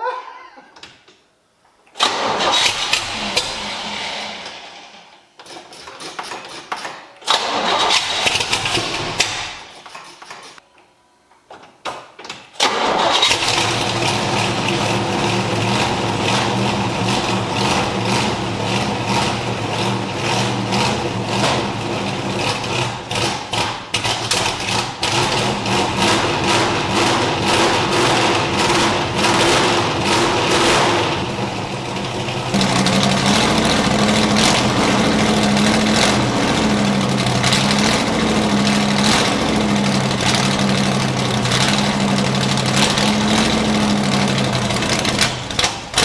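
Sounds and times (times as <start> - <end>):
car engine starting and running: 2.0 - 5.3, 7.3 - 9.6, 12.6 - 46.0.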